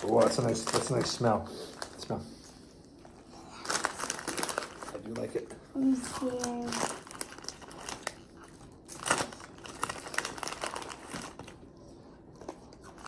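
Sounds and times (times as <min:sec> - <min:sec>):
snack bag rustling: 0:00.0 - 0:02.2, 0:03.0 - 0:13.0.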